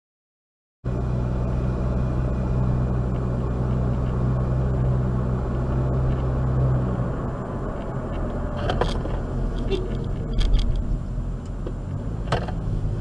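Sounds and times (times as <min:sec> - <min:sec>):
car engine and road noise: 0:00.8 - 0:13.0.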